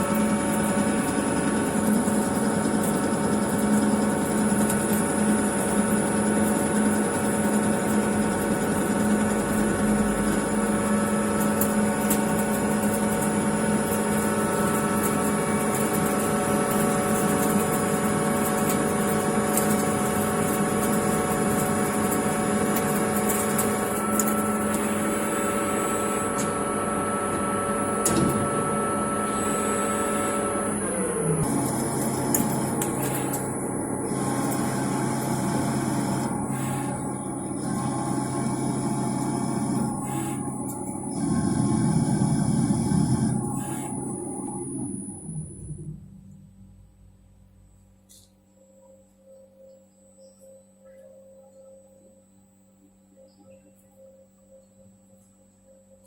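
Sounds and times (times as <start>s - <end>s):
lathe machine hum: 0.0s - 45.6s.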